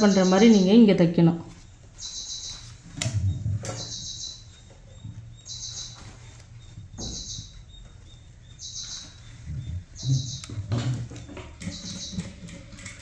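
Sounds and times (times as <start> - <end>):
bird chirping in high trills: 0.0 - 0.9, 1.6 - 10.7, 11.6 - 12.4.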